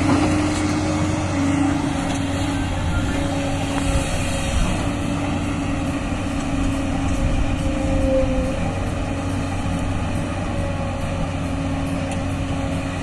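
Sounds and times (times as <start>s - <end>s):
excavator diesel engine working: 0.0s - 13.0s.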